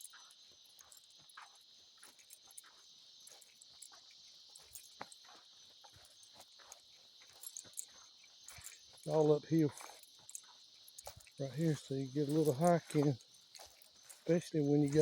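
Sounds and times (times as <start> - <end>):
footsteps on forest floor: 0.0 - 15.0
high-pitched insect chorus: 0.0 - 15.0.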